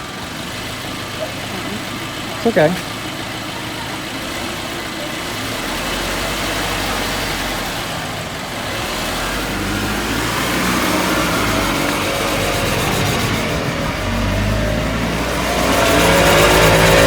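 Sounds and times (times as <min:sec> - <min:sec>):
car engine running: 0:00.0 - 0:17.0
wheels and drivetrain whirring: 0:00.0 - 0:17.0.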